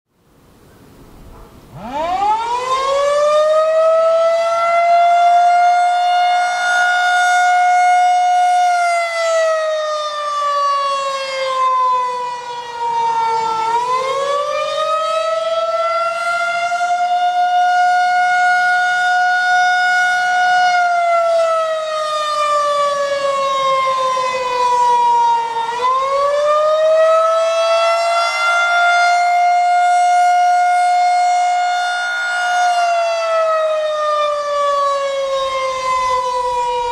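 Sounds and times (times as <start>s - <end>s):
rotating siren wailing: 1.6s - 36.9s.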